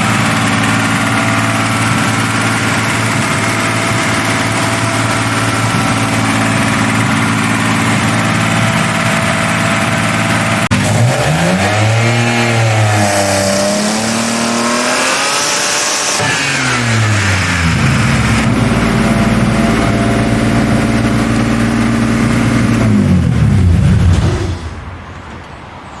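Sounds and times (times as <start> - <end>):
car engine revving: 0.0 - 25.6.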